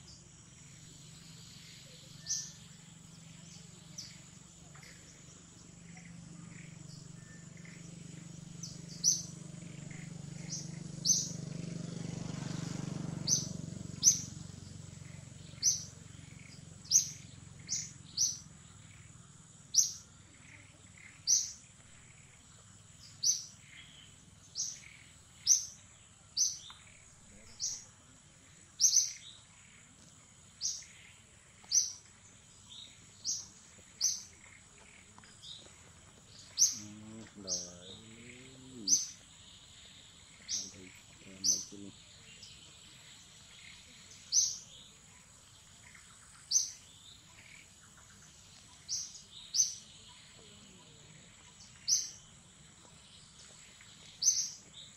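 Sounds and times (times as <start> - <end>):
bird chirping: 0.0 - 54.9
high-pitched insect whine: 0.0 - 54.9.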